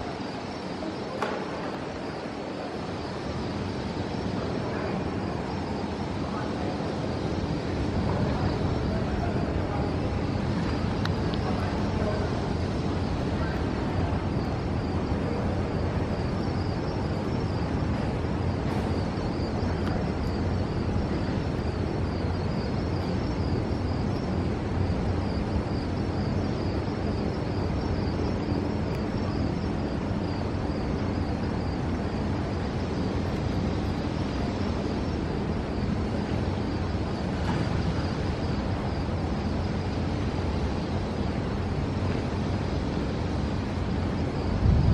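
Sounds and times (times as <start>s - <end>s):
faint high wavering whine: 0.0s - 44.9s
outdoor rumble and hiss: 0.0s - 44.9s.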